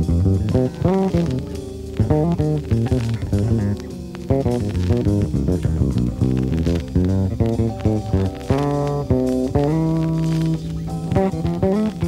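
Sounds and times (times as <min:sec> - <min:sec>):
drum kit: 0:00.0 - 0:12.0
electric bass guitar: 0:00.0 - 0:12.0
guitar playing quick notes: 0:00.0 - 0:12.0.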